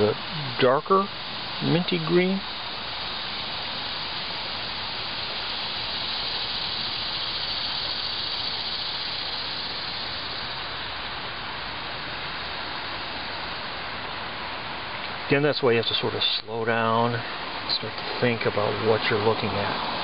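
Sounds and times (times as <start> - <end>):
steady hiss-like background noise: 0.0 - 20.0.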